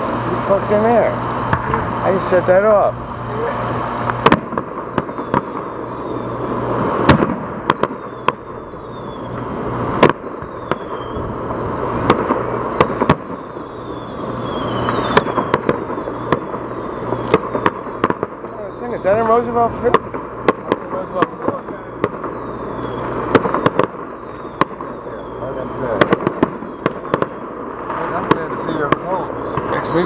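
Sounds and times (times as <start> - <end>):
steady background rumble: 0.0 - 30.0
distant fireworks bangs and pops: 4.0 - 30.0.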